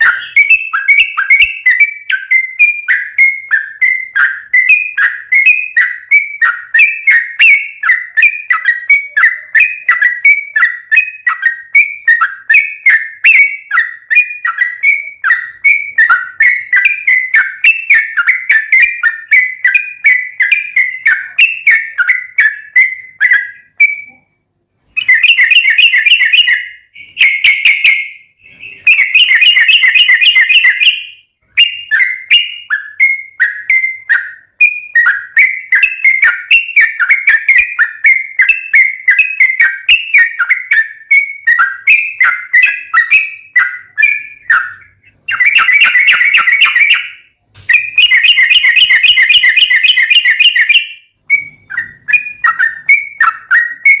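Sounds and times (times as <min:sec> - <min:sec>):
bulbul singing: 0:00.0 - 0:54.0.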